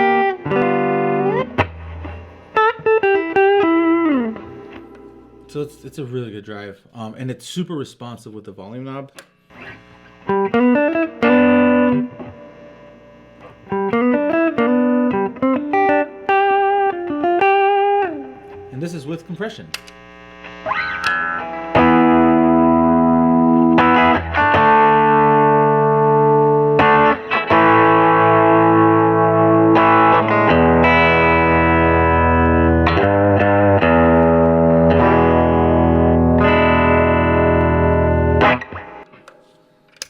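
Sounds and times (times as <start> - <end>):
distorted electric guitar chords: 0.0 - 6.1, 9.2 - 40.0.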